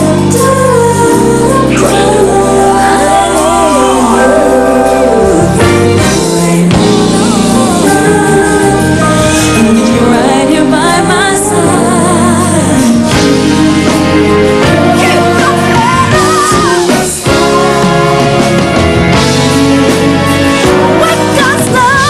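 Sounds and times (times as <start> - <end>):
gospel choir and band: 0.0 - 22.0
lead vocal singing ornamented runs: 0.0 - 22.0.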